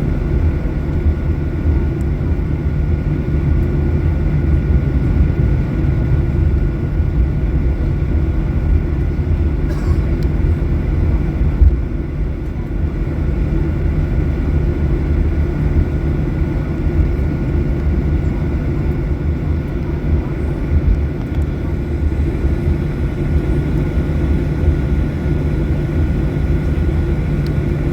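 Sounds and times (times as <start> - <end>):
faint jet engine whine: 0.0 - 27.9
jet engine cabin rumble: 0.0 - 27.9.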